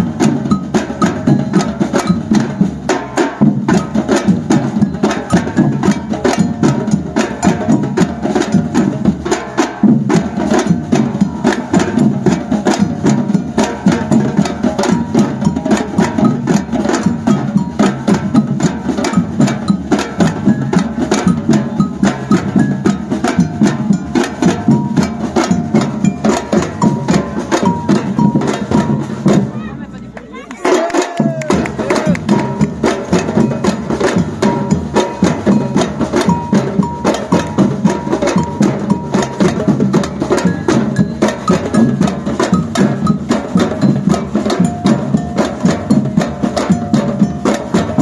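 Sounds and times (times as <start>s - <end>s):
samba percussion ensemble: 0.0s - 48.0s.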